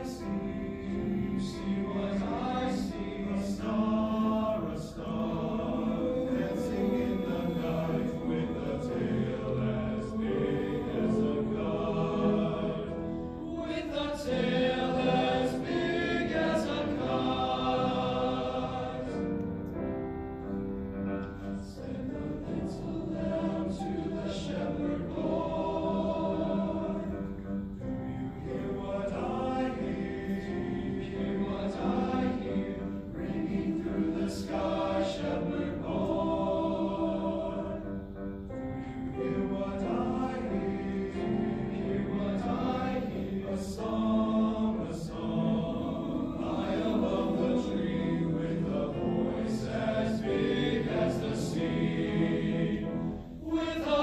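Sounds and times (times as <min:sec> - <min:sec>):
choir singing in parts: 0:00.0 - 0:19.8, 0:20.4 - 0:54.0.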